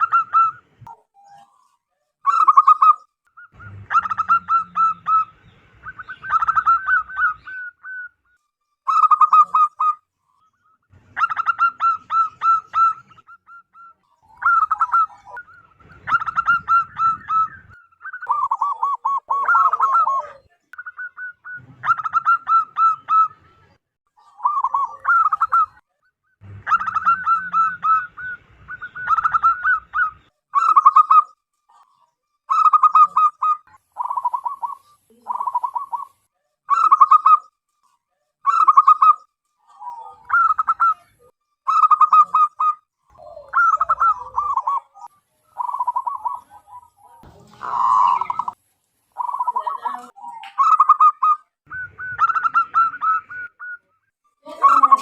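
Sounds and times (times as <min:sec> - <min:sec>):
dove cooing: 0:00.0 - 0:01.6, 0:02.2 - 0:10.0, 0:11.0 - 0:25.8, 0:26.4 - 0:37.4, 0:38.5 - 0:55.0.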